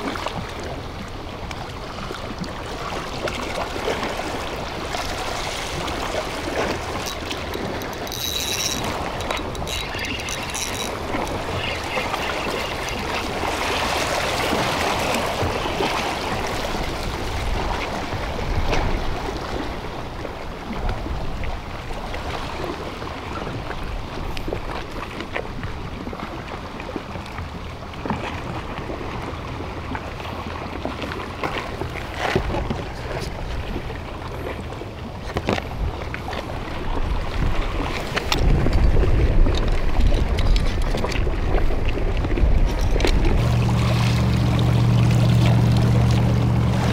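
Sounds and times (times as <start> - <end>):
water lapping against concrete: 0.0 - 46.9.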